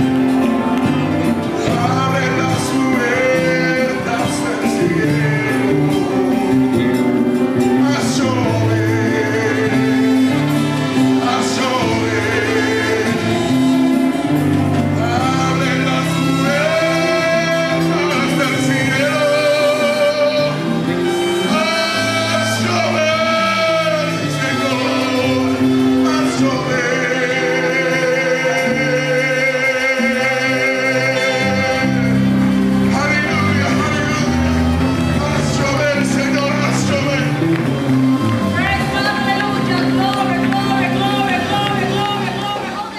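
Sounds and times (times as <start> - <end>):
band bass and chords: 0.0 - 42.9
choir singing: 0.0 - 42.9
man singing long notes: 0.0 - 42.9.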